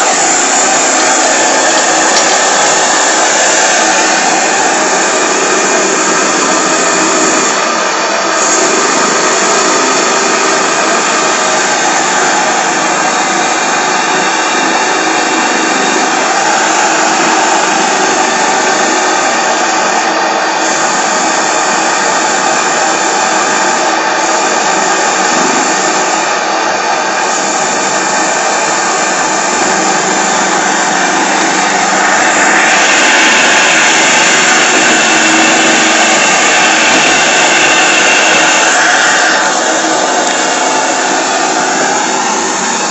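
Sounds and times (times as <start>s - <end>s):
steam engine hissing whir: 0.0s - 42.9s.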